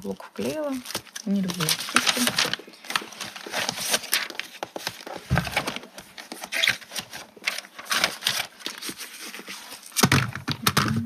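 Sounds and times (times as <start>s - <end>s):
paper rustling: 0.4s - 11.0s.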